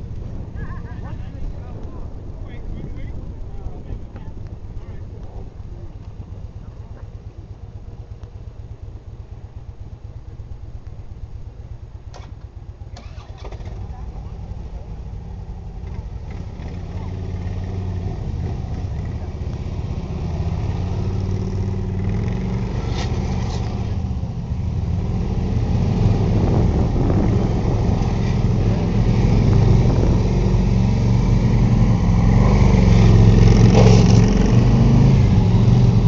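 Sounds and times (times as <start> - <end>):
motorcycle engine at low revs: 3.2 - 36.0.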